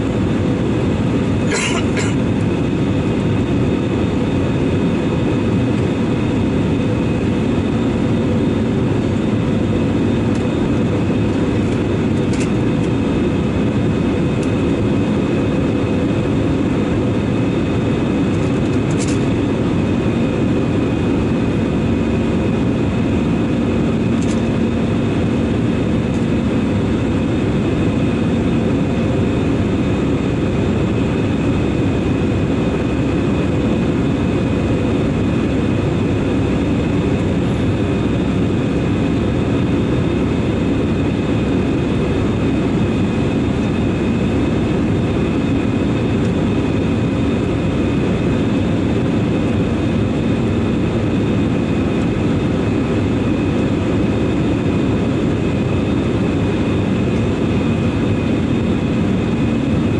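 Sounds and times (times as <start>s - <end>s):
jet engines and airflow roar: 0.0s - 59.9s
steady hum: 0.0s - 59.9s.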